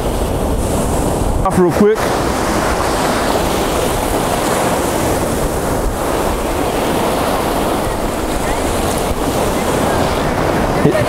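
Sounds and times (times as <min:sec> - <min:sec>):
surf washing over sand: 0:00.0 - 0:11.0.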